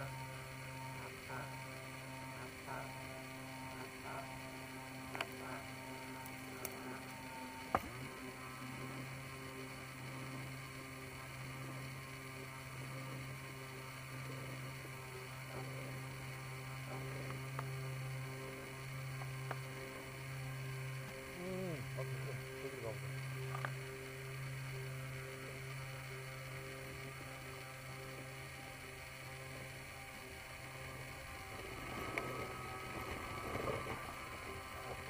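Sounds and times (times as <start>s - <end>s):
faint higher tones: 0.0s - 35.0s
steady low hum: 0.0s - 35.0s.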